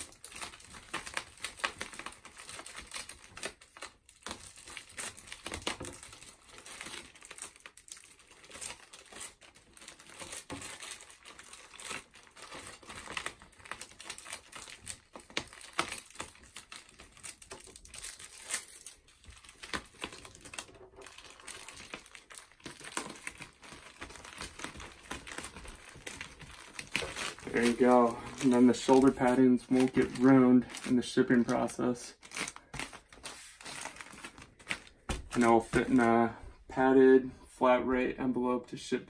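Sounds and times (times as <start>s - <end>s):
plastic mailer crinkling: 0.0s - 36.4s.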